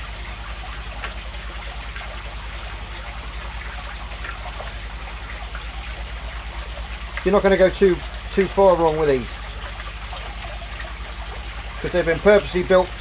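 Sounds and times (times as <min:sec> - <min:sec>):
aquarium filters trickling and splashing: 0:00.0 - 0:13.0.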